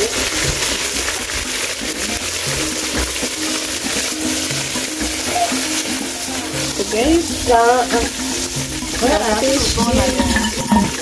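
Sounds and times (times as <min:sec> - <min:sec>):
background music: 0:00.0 - 0:11.0
fish sizzling in hot oil: 0:00.0 - 0:11.0.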